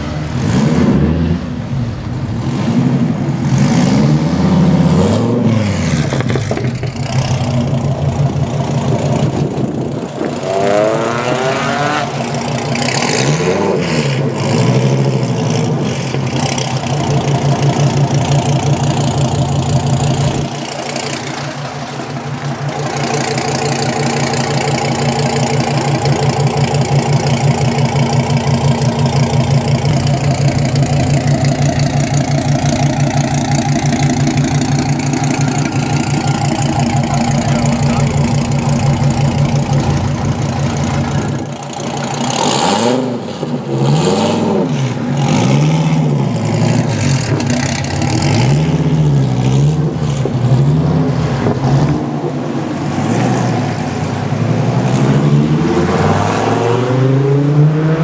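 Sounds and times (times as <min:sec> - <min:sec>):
sports car engine revving: 0:00.0 - 0:58.0.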